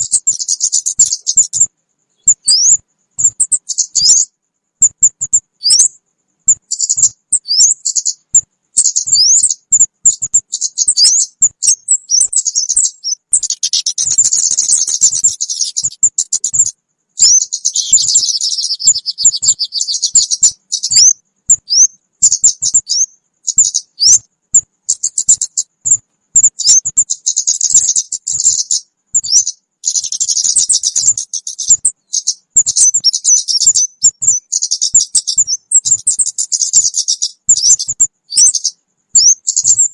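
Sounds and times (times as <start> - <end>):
buzzy bird trilling: 0.0 - 5.9, 6.5 - 39.9
small birds chirping: 0.0 - 39.9.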